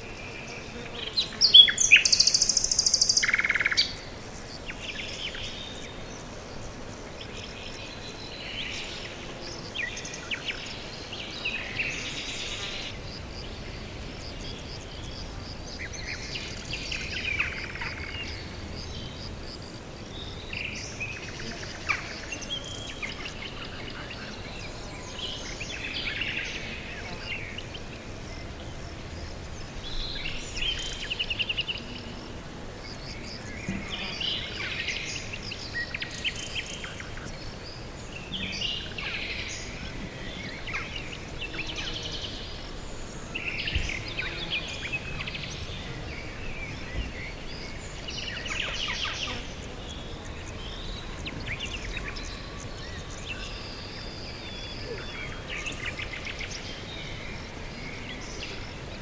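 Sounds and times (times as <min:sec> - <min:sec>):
low background hiss: 0:00.0 - 0:59.0
songbirds chirping and trilling: 0:00.0 - 0:59.0.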